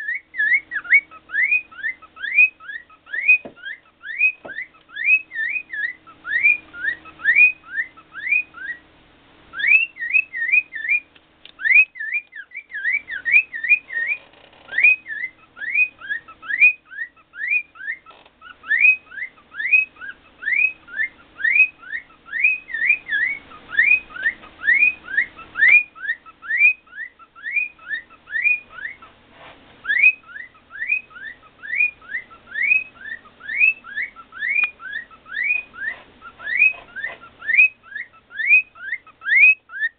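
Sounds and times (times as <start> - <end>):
cockatiel whistling: 0.0 - 8.8, 9.5 - 29.1, 29.8 - 39.9.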